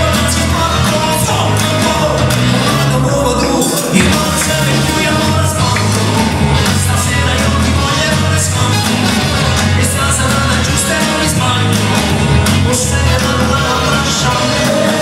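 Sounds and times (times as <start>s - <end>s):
upbeat dance music on keyboard: 0.0s - 15.0s.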